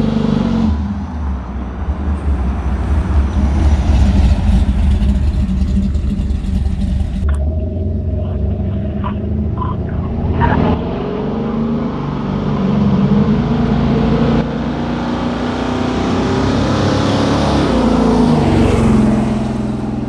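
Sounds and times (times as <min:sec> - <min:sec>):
loud lumpy pickup engine revving: 0:02.2 - 0:20.0.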